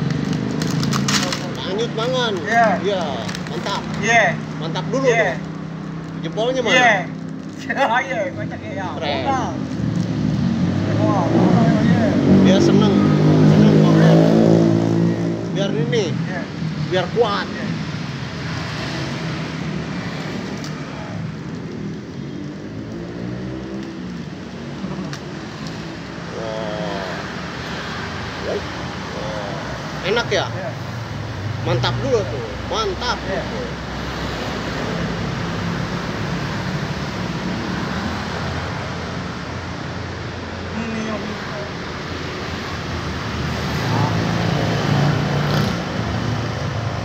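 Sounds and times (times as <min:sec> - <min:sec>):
motorbikes passing: 0:00.0 - 0:47.0
road traffic noise: 0:00.0 - 0:47.0.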